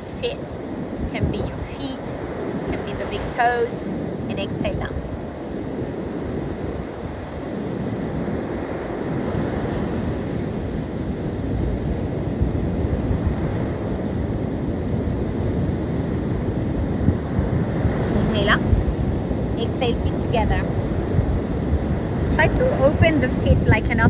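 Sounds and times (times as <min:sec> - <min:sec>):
surf breaking on beach: 0:00.0 - 0:24.0
wind buffeting microphone: 0:00.0 - 0:24.0.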